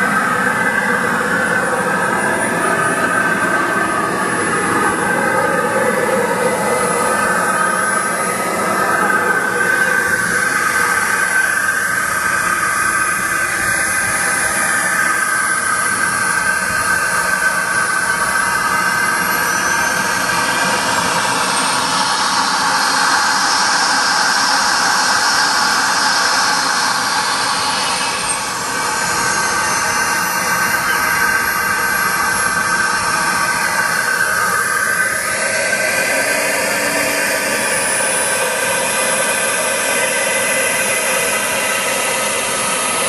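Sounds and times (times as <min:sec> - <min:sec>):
model jet turbine hissing and whining: 0:00.0 - 0:43.0.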